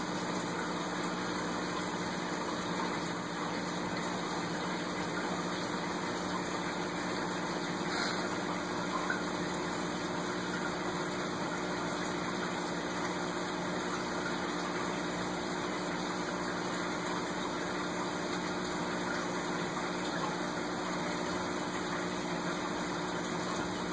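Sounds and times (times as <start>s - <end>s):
aquarium filter pump humming: 0.0s - 23.9s.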